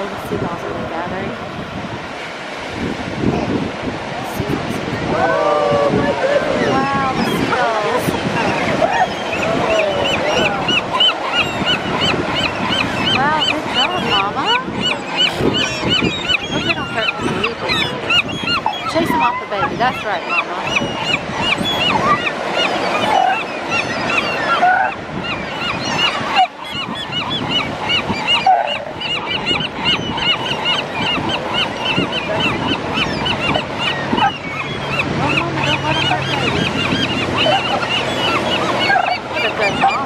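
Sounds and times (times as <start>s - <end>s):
gulls calling: 0.0s - 40.0s.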